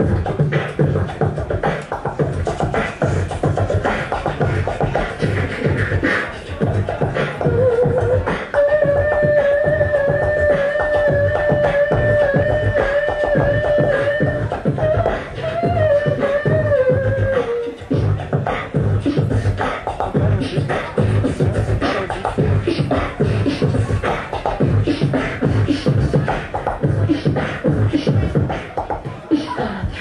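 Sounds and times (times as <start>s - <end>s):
beatbox kick and snare beat: 0.0s - 30.0s
sliding vocal line: 0.0s - 30.0s.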